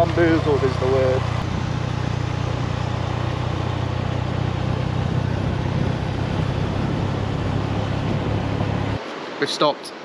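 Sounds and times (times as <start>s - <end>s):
motorcycle engine running: 0.0s - 9.0s
wind and road noise: 0.0s - 10.0s.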